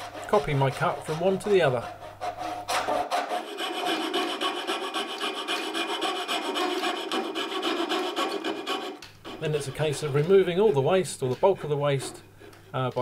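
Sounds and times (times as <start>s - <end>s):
back saw strokes: 0.0s - 12.2s
coping saw rasping: 0.0s - 12.6s.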